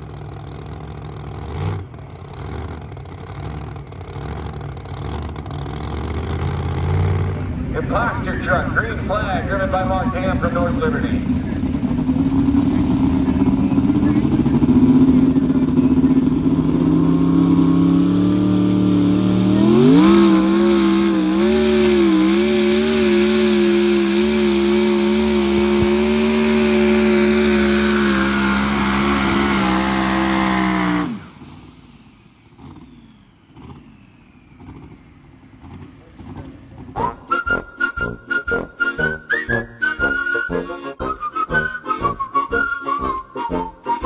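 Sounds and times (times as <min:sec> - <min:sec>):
truck engine revving under load: 0:00.0 - 0:44.0.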